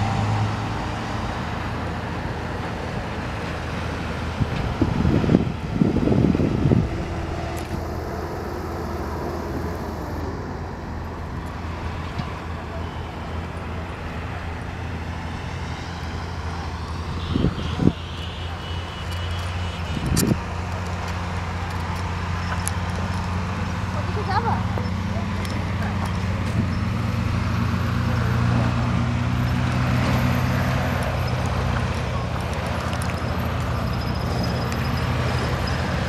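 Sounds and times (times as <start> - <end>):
road traffic rumble: 0.0 - 36.0.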